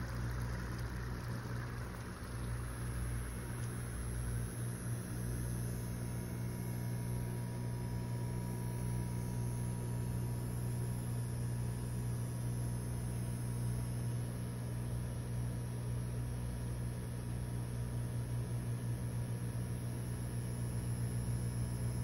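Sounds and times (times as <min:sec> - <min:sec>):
electric hum: 0:00.0 - 0:22.0.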